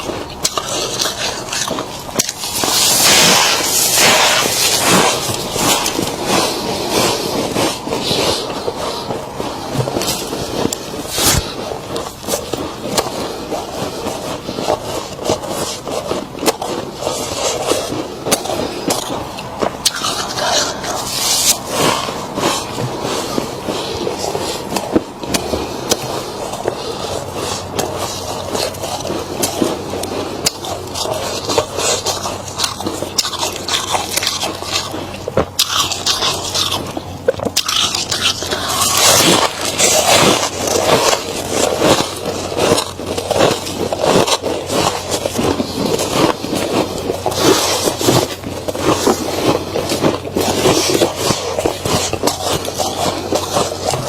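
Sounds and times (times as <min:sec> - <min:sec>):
frost crunching and crackling: 0:00.0 - 0:54.0.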